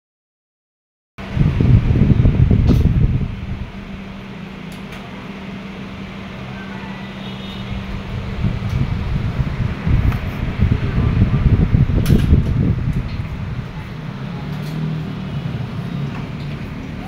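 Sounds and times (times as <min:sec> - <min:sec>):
loud rough low rumble: 0:01.2 - 0:17.0
steady low fan hum: 0:01.2 - 0:17.0.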